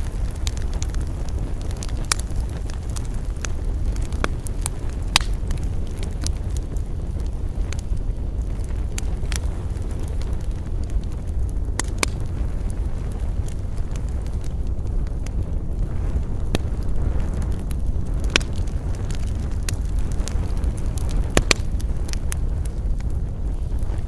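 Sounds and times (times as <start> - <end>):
campfire crackling and popping: 0.0 - 24.0
low rumble: 0.0 - 24.0.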